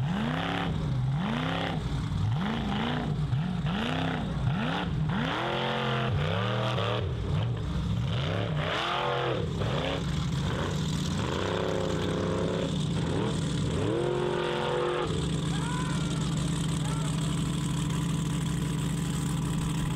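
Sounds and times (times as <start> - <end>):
engine revving in bursts: 0.0 - 19.9
low engine drone: 0.0 - 19.9.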